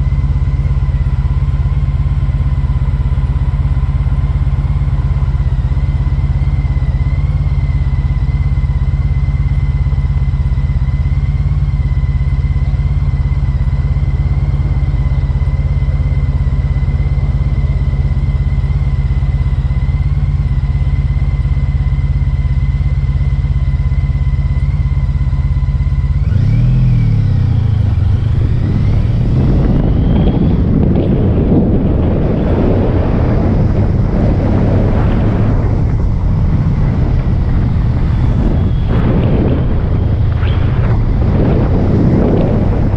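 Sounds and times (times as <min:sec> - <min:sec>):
rushing wind noise: 0:00.0 - 0:22.7, 0:25.9 - 0:42.9
motorcycle engine: 0:00.0 - 0:42.9.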